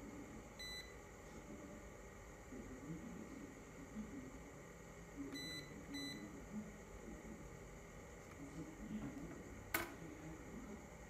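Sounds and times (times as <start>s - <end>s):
faint murmur of voices: 0.0s - 11.0s.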